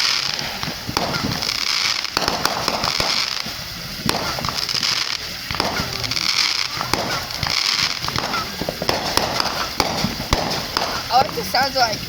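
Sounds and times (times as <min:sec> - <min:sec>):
fireworks bangs and crackling pops: 0:00.0 - 0:12.0
fireworks fizzing hiss: 0:00.0 - 0:12.0.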